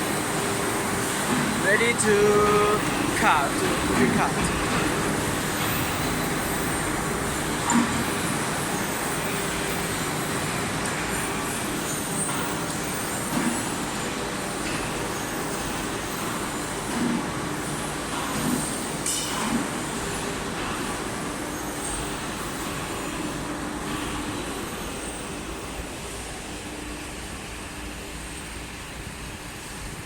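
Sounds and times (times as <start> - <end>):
steady machinery noise: 0.0 - 30.0.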